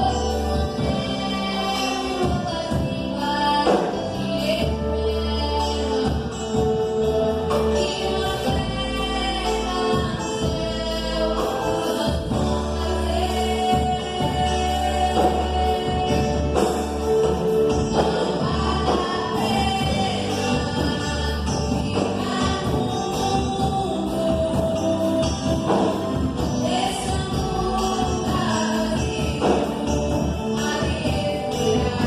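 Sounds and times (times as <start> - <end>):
gospel band playing: 0.0 - 32.0
group of voices singing: 0.0 - 32.0
steady bass: 0.0 - 32.0.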